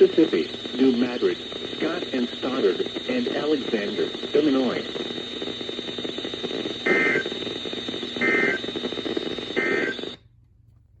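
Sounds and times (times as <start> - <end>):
radio static: 0.0 - 10.2.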